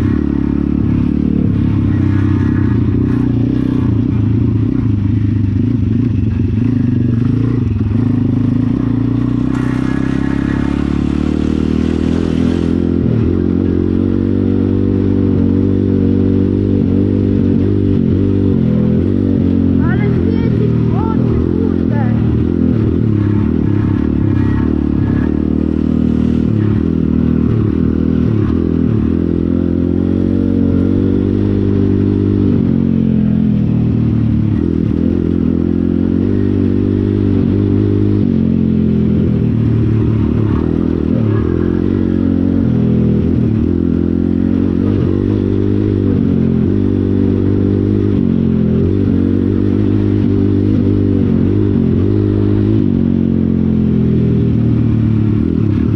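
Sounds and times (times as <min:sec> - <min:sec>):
pit bike engine revving: 0:00.0 - 0:55.9.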